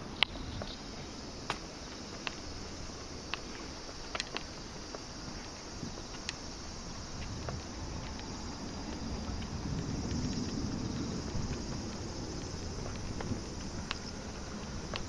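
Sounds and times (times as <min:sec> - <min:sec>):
footsteps on pavement: 0:00.0 - 0:15.0
outdoor background noise: 0:00.0 - 0:15.0.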